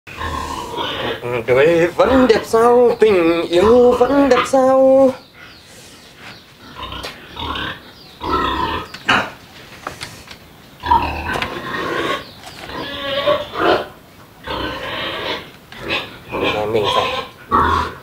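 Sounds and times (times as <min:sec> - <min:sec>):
pigs squealing and grunting: 0:00.1 - 0:05.6, 0:06.2 - 0:09.4, 0:10.8 - 0:18.0.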